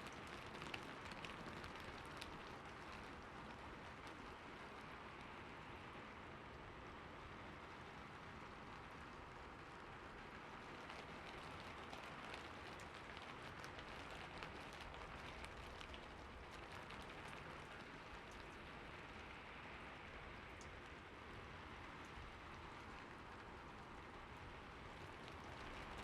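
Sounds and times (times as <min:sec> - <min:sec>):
raindrops ticking: 0:00.0 - 0:05.4, 0:08.6 - 0:26.0
rain on a rooftop: 0:00.0 - 0:26.0.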